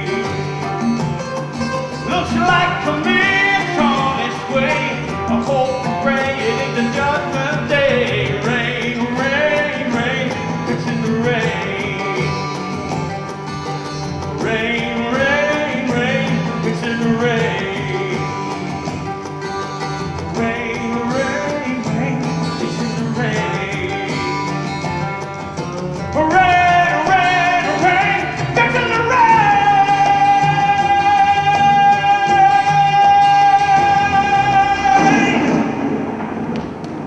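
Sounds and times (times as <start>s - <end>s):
person singing: 0.0s - 0.9s, 1.9s - 13.2s, 14.3s - 18.9s, 20.3s - 24.6s, 26.2s - 35.8s
guitar accompaniment: 0.0s - 37.0s.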